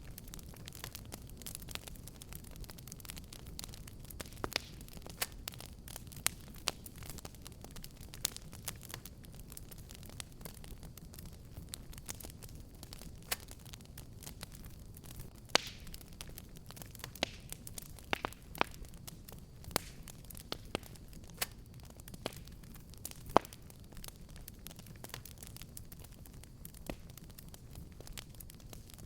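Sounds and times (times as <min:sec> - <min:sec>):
fireplace fire crackling: 0:00.0 - 0:29.0
low rumble of burning: 0:00.0 - 0:29.0.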